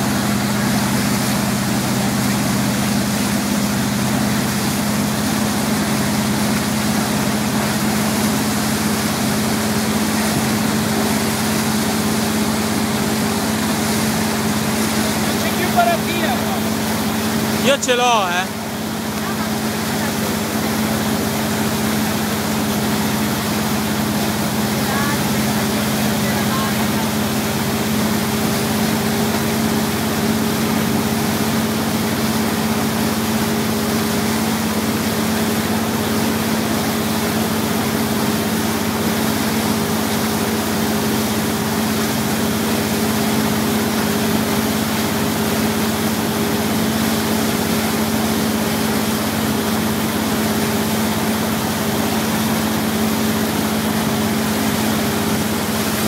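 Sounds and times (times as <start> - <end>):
boat engine humming: 0.0 - 56.0
rushing water wake: 0.0 - 56.0.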